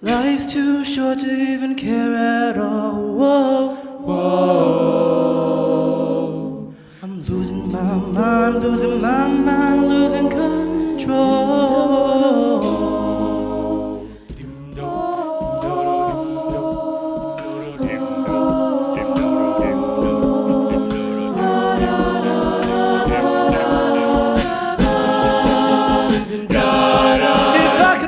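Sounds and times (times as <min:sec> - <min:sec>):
vocal percussion beat: 0:00.0 - 0:02.1, 0:07.1 - 0:28.0
a cappella choir singing chords: 0:00.0 - 0:28.0.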